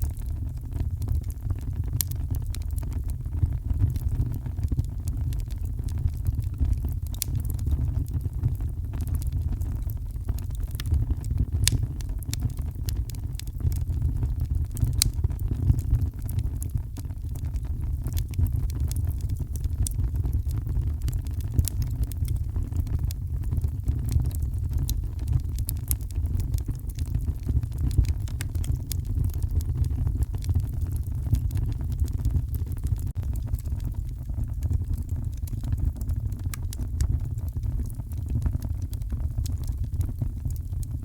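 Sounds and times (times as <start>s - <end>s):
fireplace crackling and popping: 0.0s - 41.0s.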